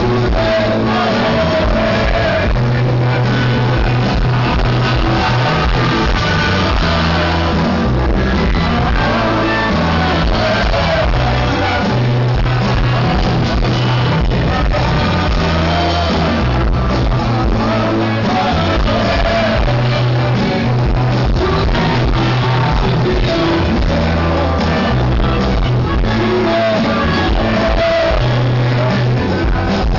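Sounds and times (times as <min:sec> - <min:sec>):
lead singer singing: 0:00.0 - 0:29.9
live rock band playing: 0:00.0 - 0:29.9.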